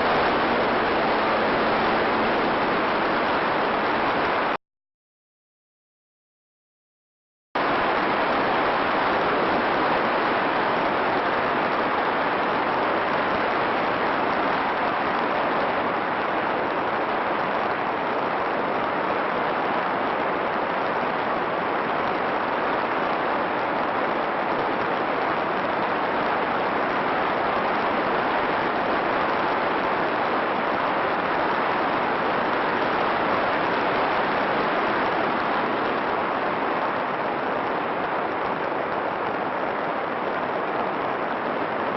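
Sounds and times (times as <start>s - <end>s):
steady static hiss: 0.0s - 4.6s, 7.6s - 41.9s.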